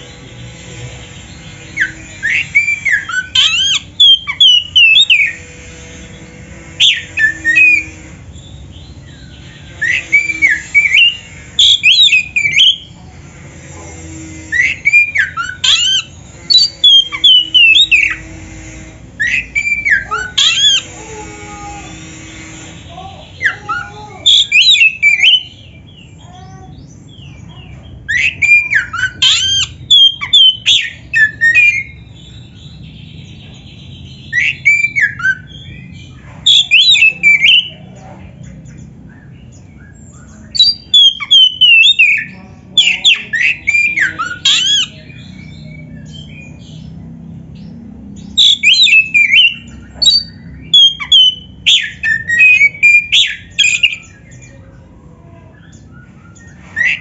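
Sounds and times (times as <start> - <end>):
songbird whistling and squawking: 0.0 - 57.0.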